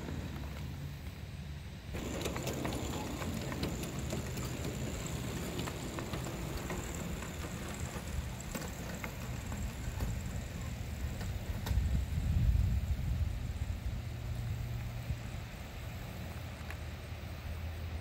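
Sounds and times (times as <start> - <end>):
miniature locomotive rumbling: 0.0 - 18.0
wheels clicking on rails: 0.0 - 18.0.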